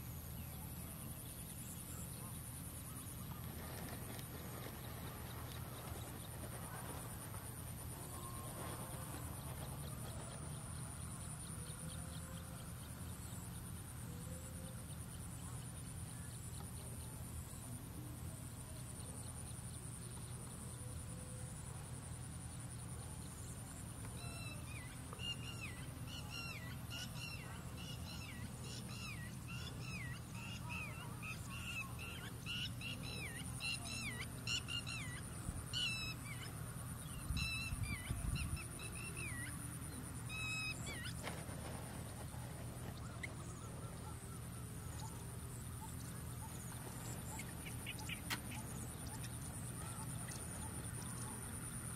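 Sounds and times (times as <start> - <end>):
steady high-pitched hiss: 0.0 - 51.9.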